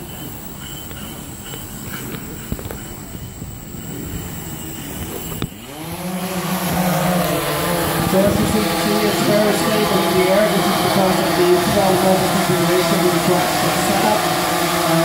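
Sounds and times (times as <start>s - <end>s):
drone motors and propellers humming: 0.0s - 15.0s.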